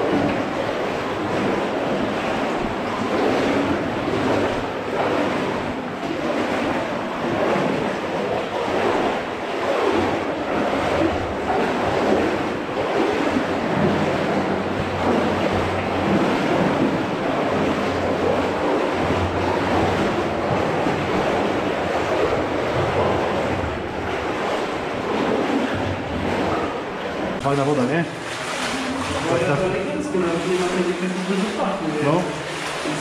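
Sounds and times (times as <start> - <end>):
water splashing and rushing: 0.0 - 33.0.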